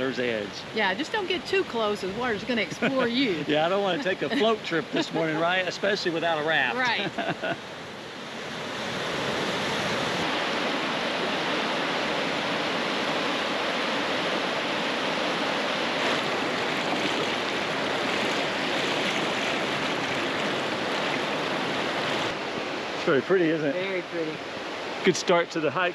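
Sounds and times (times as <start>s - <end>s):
white water rushing: 0.0s - 25.9s.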